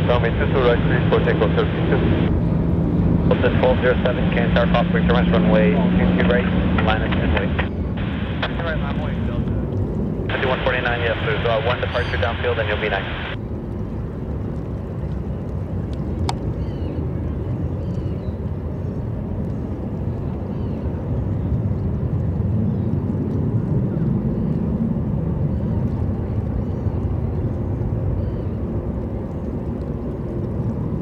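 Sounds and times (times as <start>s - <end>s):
distant jet airliner rumble: 0.0s - 31.0s.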